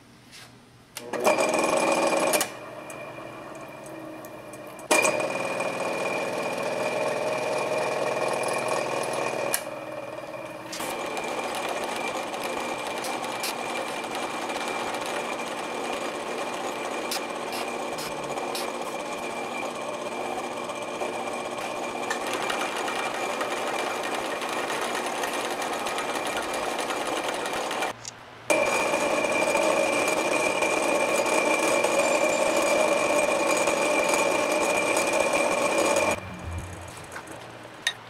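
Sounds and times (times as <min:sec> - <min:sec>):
milling spindle whine: 0:01.3 - 0:27.9, 0:28.5 - 0:37.9.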